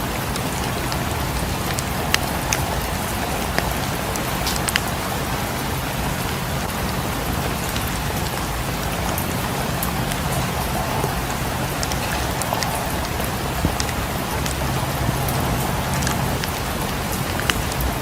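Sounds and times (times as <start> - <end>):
drips: 0.0 - 18.0
steady rain falling: 0.0 - 18.0.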